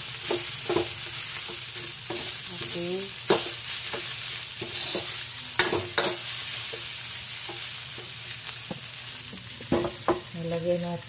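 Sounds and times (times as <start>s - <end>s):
fried rice sizzling in wok: 0.0s - 11.0s
spatula scraping and knocking pan: 0.2s - 8.9s, 9.6s - 10.3s.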